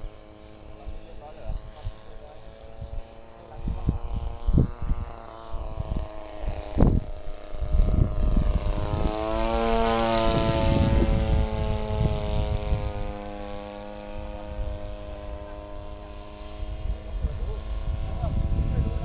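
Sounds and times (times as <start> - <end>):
model airplane engine droning: 0.0 - 19.0
wind buffeting microphone: 0.0 - 19.0.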